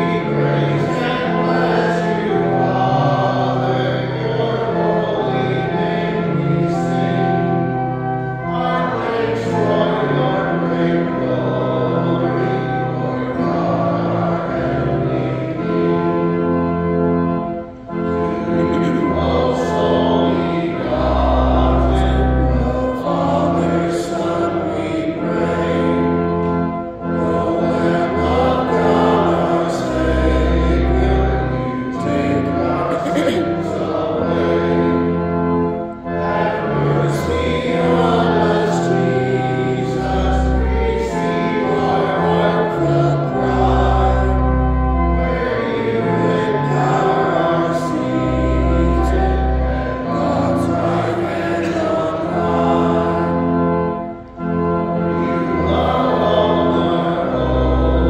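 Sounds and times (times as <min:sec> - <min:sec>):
congregation singing a hymn: 0:00.0 - 0:58.0
organ chords: 0:00.0 - 0:58.0.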